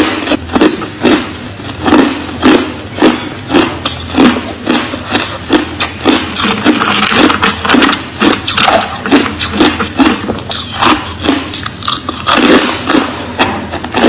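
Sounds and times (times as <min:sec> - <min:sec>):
crushed ice being chewed: 0:00.2 - 0:14.0.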